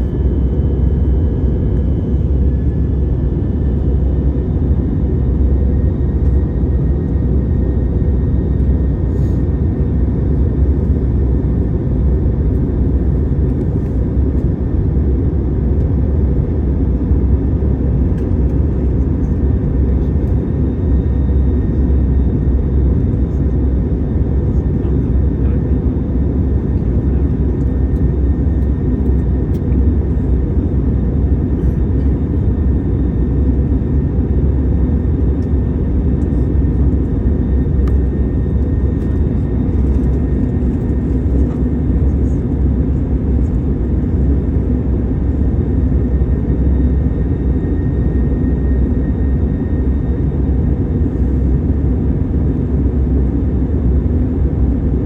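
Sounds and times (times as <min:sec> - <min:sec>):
jet engines rumbling: 0:00.0 - 0:54.8.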